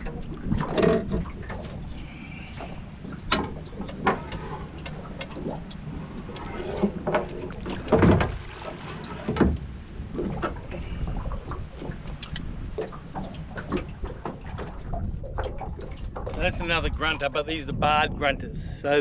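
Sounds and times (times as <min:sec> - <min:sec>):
water around boat: 0:00.0 - 0:19.0.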